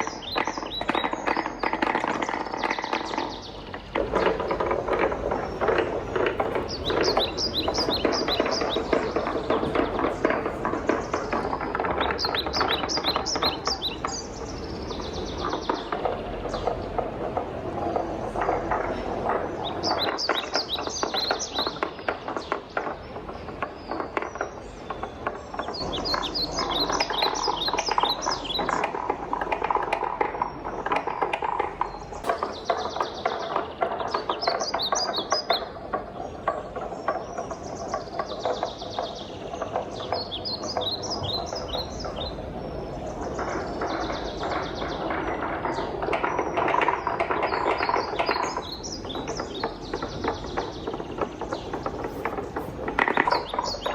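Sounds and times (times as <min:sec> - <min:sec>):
high ticks: 0:00.0 - 0:53.9
wooden balls rolling down marble run: 0:00.0 - 0:53.9.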